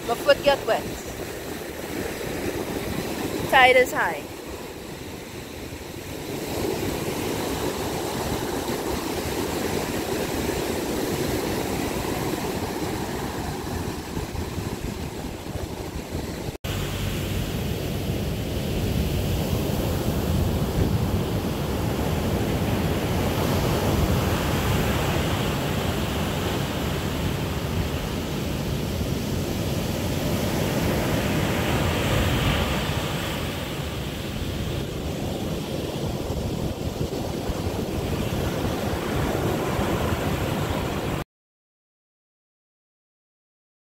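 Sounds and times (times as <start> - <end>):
sea surf breaking on sand beach: 0.0 - 41.2.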